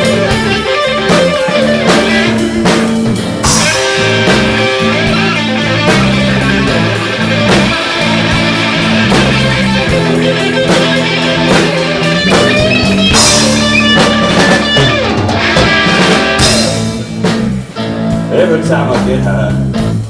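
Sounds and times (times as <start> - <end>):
blues-rock band playing: 0.0 - 20.0.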